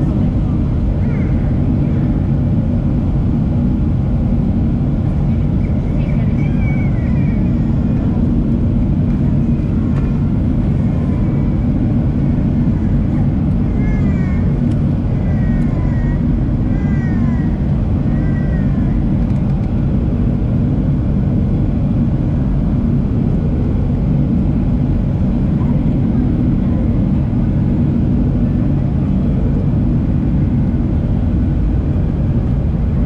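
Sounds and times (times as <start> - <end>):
airplane cabin engine rumble: 0.0 - 33.0.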